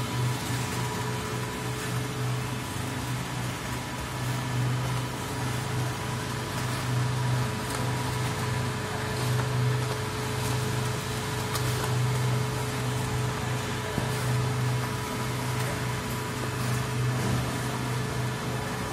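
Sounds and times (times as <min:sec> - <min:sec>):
mixer motor hum and whine: 0:00.0 - 0:18.9.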